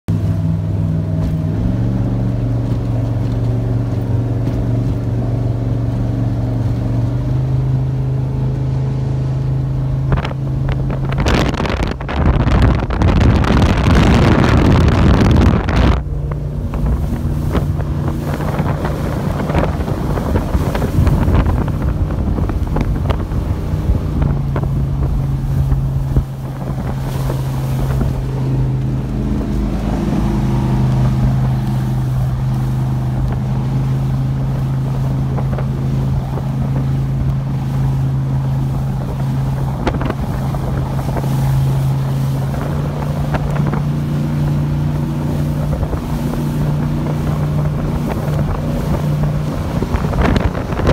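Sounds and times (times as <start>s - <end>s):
powerboat engine running: 0.1s - 50.9s
wind buffeting microphone: 0.7s - 50.9s
hull knocking through water: 10.1s - 50.9s.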